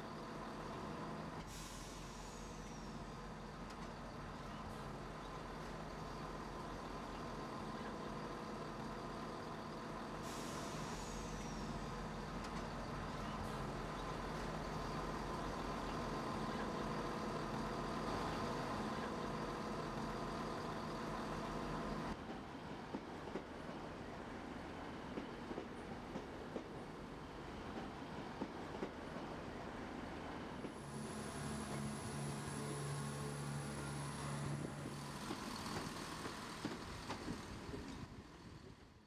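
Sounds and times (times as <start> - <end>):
diesel train engine idling: 0.0 - 22.2, 29.7 - 38.8.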